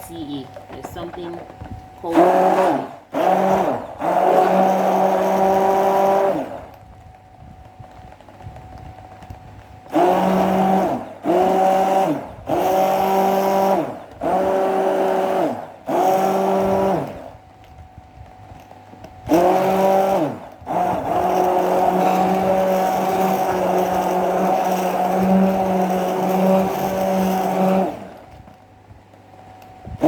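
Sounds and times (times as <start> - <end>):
electric mixer motor running: 0.7 - 28.6.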